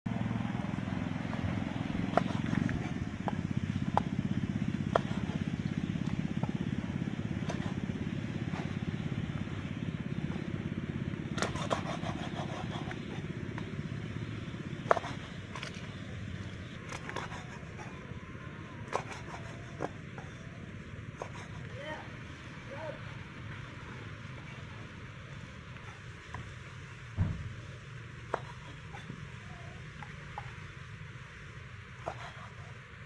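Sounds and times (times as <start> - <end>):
low drone: 0.1 - 33.0.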